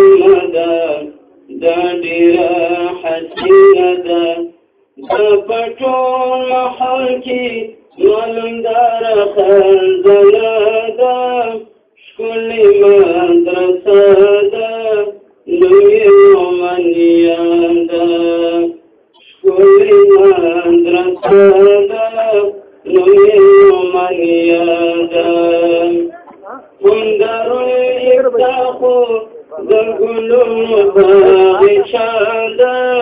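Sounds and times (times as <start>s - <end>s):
man chanting unaccompanied: 0.0s - 33.0s.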